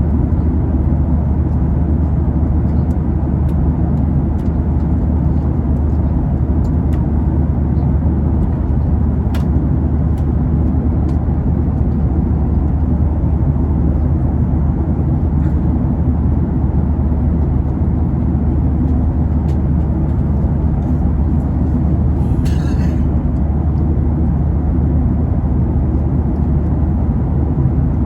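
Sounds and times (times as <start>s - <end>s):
airliner cabin drone: 0.0s - 28.0s.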